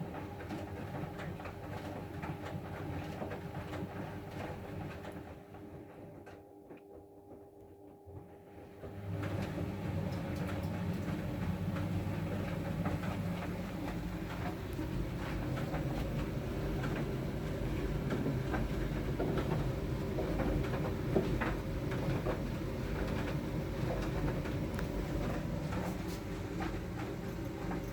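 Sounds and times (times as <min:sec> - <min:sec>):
washing machine rumbling: 0:00.0 - 0:06.5, 0:08.8 - 0:27.9.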